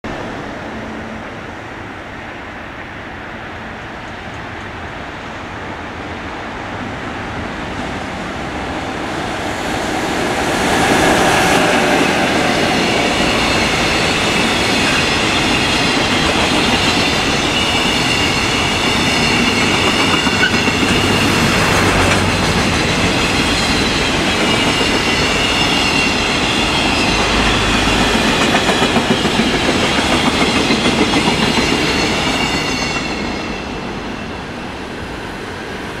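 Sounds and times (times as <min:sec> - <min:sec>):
electric locomotive passing: 0:00.1 - 0:36.0.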